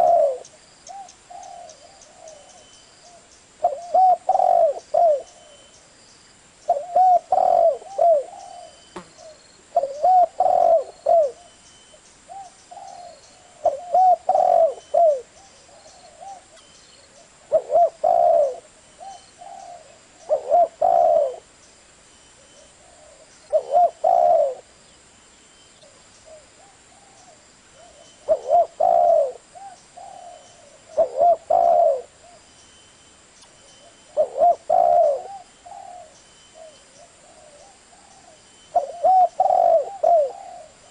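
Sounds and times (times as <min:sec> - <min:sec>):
dove cooing: 0:00.0 - 0:05.7, 0:06.7 - 0:11.5, 0:12.3 - 0:21.5, 0:22.4 - 0:24.7, 0:25.8 - 0:32.4, 0:33.8 - 0:40.9
small birds chirping: 0:00.0 - 0:40.9.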